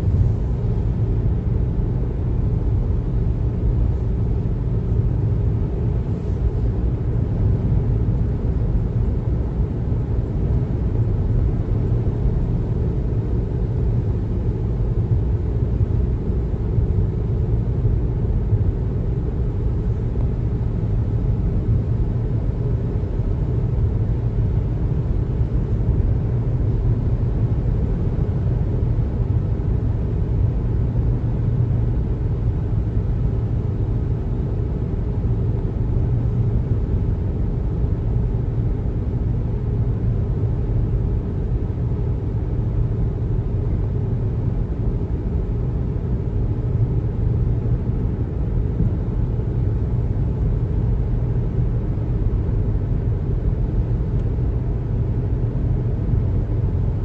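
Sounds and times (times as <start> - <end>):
car driving road noise: 0.0 - 57.0.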